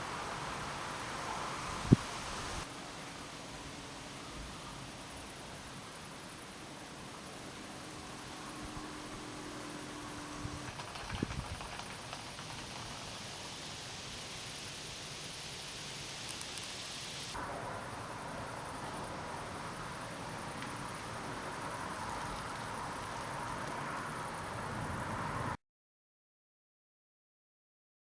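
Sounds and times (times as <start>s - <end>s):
steady rain hiss: 0.0s - 25.6s.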